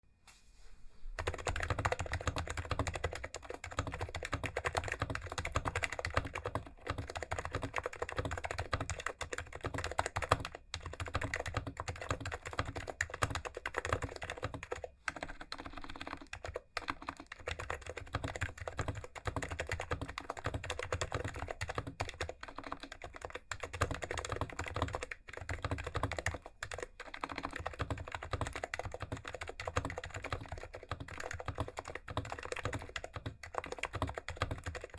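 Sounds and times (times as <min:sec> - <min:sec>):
keyboard typing: 0:01.2 - 0:34.9.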